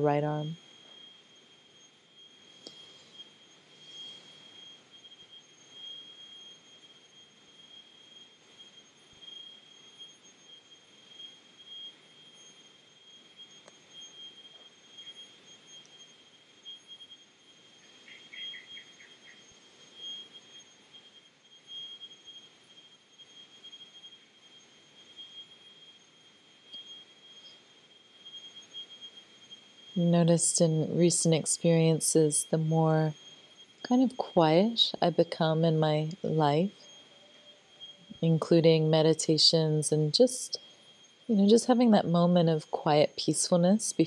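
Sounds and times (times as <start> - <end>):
faint high-pitched tone: 0.0 - 44.0.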